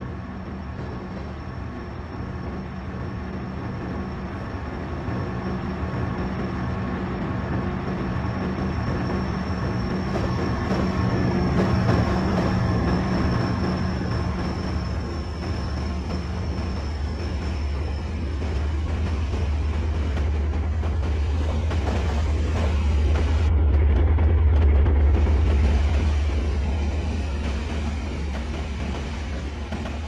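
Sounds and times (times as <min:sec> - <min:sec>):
constant whining tones: 0:00.0 - 0:30.0
vehicle low rumble: 0:00.0 - 0:30.0.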